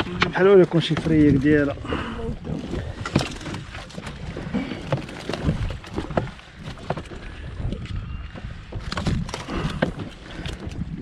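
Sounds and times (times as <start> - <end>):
sea water sloshing: 0.0 - 11.0
wind buffeting microphone: 0.0 - 11.0.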